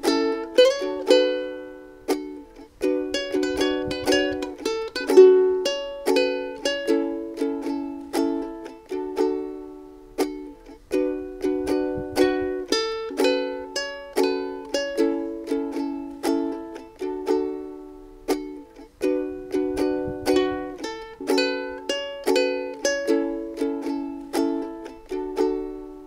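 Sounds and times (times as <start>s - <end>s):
ukulele fingerpicked arpeggio: 0.0s - 26.0s.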